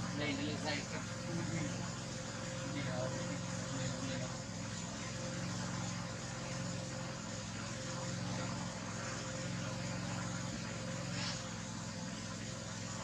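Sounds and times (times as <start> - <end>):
even hiss: 0.0 - 13.0
low engine hum: 0.0 - 13.0.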